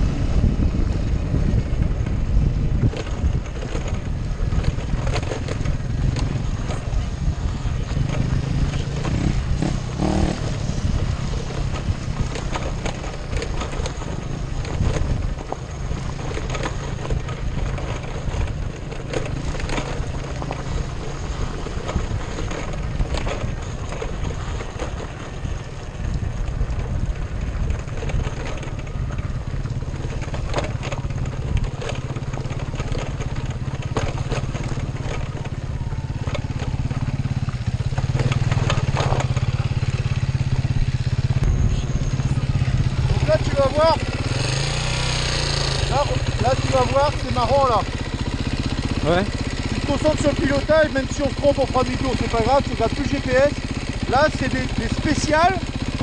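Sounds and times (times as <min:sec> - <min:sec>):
motorcycle engine running: 0:00.0 - 0:56.0
wind buffeting: 0:00.0 - 0:56.0
knocks and rattles: 0:07.8 - 0:25.6, 0:26.4 - 0:56.0.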